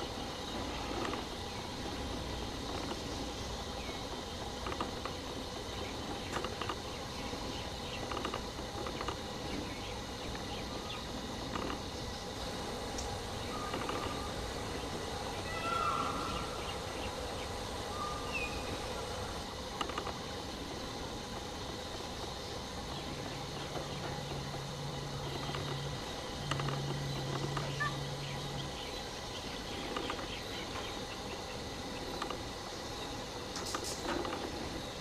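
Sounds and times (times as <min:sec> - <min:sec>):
faint insect drone: 0:00.0 - 0:35.0
low flat hums: 0:00.0 - 0:35.0
steady forest hiss: 0:00.0 - 0:35.0.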